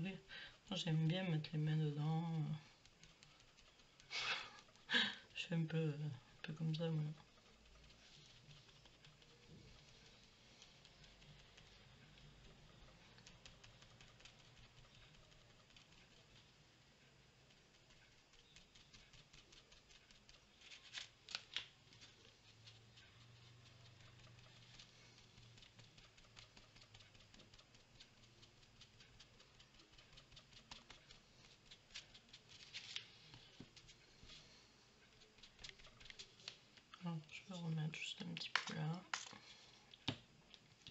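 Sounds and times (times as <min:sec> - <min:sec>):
fingertips rubbing paper: 0:00.6 - 0:37.0.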